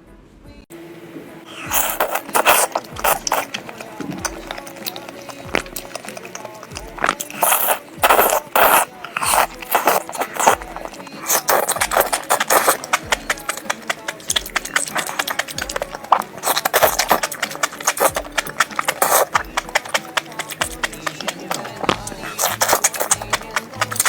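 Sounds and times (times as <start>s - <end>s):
crunchy chewing of food: 1.5s - 24.0s
background music with low beat: 1.8s - 24.0s.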